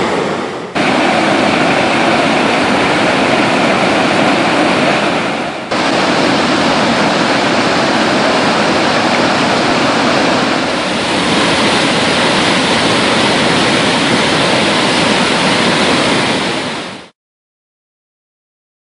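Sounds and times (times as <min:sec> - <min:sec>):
waterfall rushing: 0:00.0 - 0:17.1.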